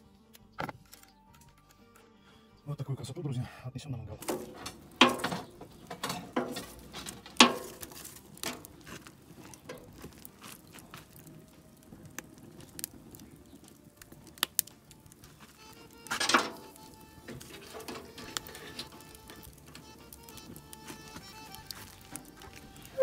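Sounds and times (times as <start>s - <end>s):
wood fire crackling and popping: 4.2s - 23.0s.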